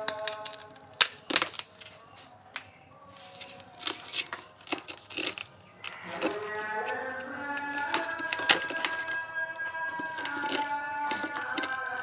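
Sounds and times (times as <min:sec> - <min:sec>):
dried dirt breaking clicks: 0:00.0 - 0:01.9, 0:03.4 - 0:09.2, 0:09.9 - 0:12.0.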